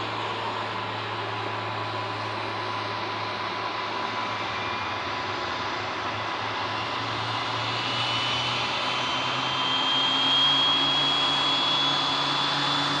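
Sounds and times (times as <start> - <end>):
low propeller hum: 0.0 - 13.0
turboprop aircraft engines roaring: 0.0 - 13.0.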